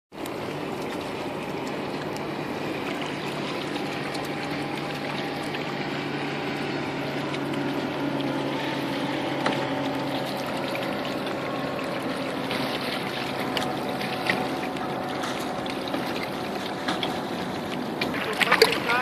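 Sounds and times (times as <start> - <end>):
distant boat engine drone: 0.1 - 19.0
water washing against rocks: 0.7 - 19.0.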